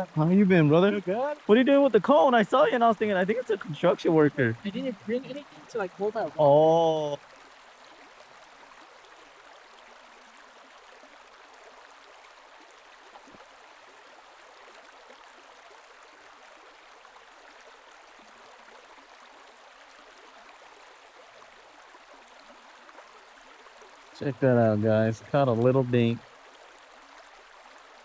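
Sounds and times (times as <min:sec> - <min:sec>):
faint rush of flowing water: 0:00.0 - 0:28.0.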